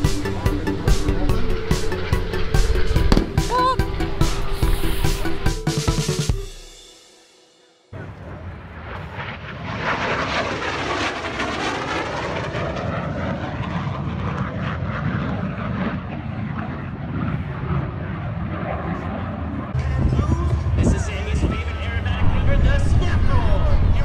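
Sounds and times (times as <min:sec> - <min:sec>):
propeller plane engine: 0:00.0 - 0:06.5, 0:08.0 - 0:24.0.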